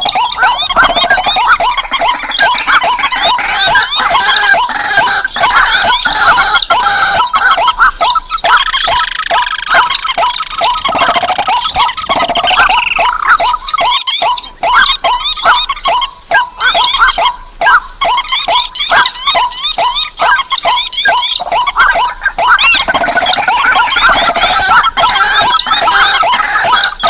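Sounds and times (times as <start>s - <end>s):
marsh birds calling: 0.0s - 27.0s.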